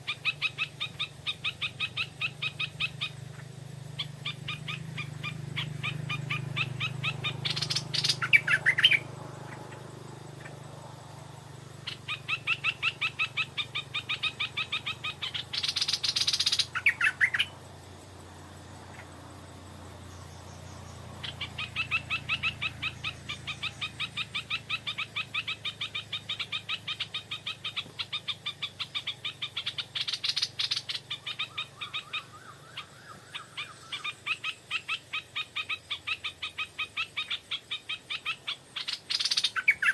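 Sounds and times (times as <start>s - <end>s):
bulbuls calling: 0.0s - 39.9s.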